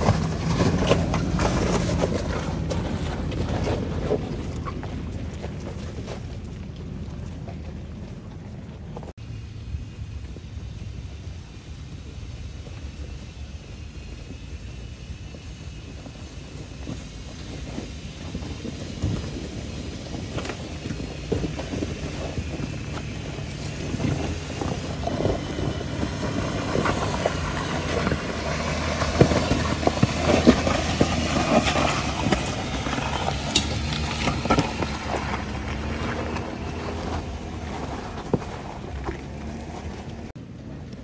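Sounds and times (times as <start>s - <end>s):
stones knocking under wheels: 0.0s - 9.1s, 16.5s - 40.3s
tyres crunching gravel: 0.0s - 9.2s, 12.4s - 41.0s
off-road vehicle engine crawling: 0.0s - 41.0s.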